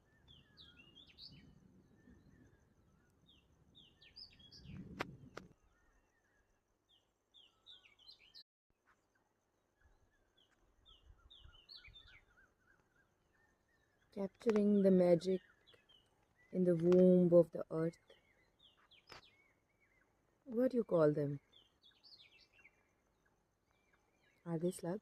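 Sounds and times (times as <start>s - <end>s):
songbird chirping: 0.0s - 25.0s.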